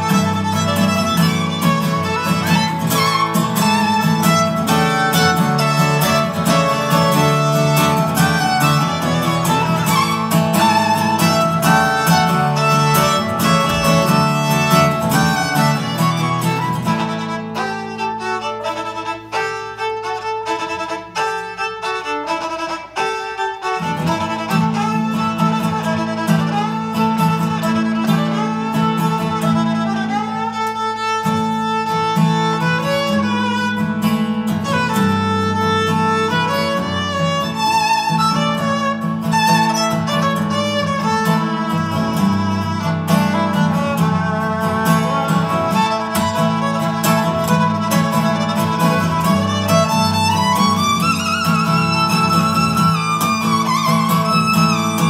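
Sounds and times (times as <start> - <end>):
bowed violin: 0.0 - 55.0
strummed acoustic guitar: 0.0 - 55.0.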